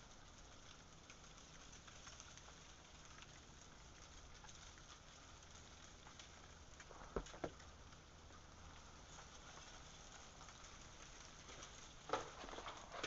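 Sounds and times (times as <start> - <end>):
ice dripping from branches: 0.0 - 13.0
steady hiss: 0.0 - 13.0.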